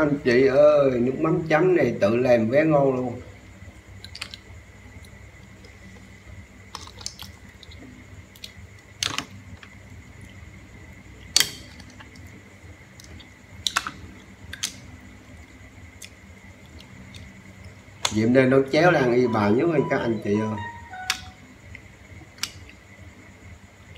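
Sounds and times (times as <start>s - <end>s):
faint steady hum: 0.0s - 23.9s.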